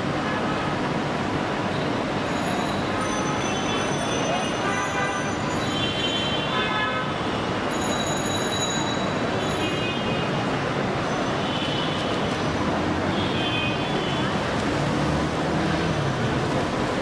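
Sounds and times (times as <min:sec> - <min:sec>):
passing traffic din: 0:00.0 - 0:17.0.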